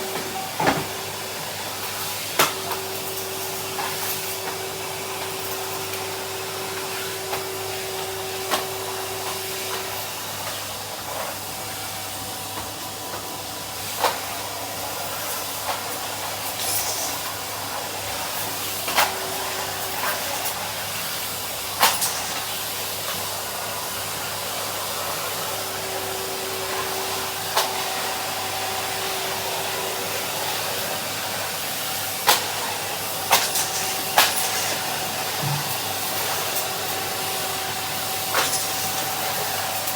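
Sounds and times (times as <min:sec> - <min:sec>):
vacuum cleaner motor hum: 0:00.0 - 0:39.9.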